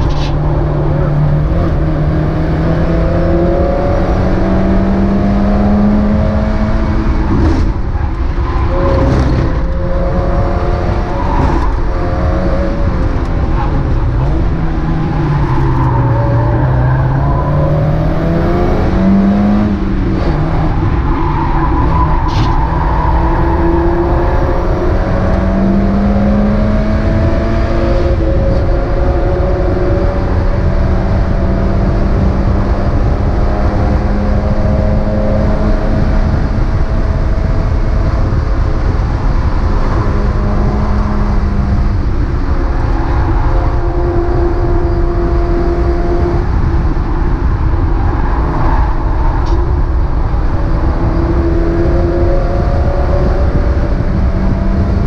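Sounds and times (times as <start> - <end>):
race car engine: 0.0 - 55.0
road and wind noise: 0.0 - 55.0.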